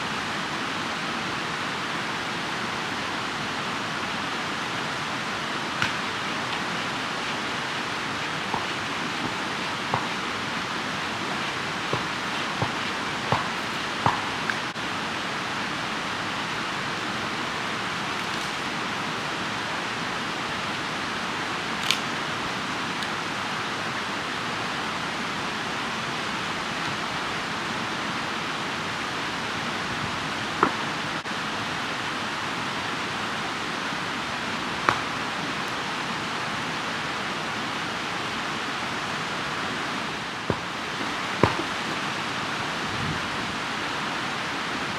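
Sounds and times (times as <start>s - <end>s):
campfire burning with hiss: 0.0s - 44.9s.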